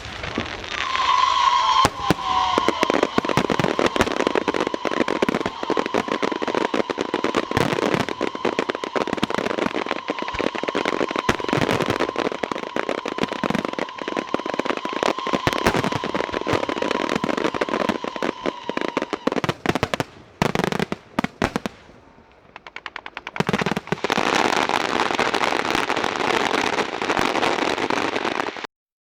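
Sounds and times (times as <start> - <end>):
fireworks crackling pops: 0.0 - 28.7.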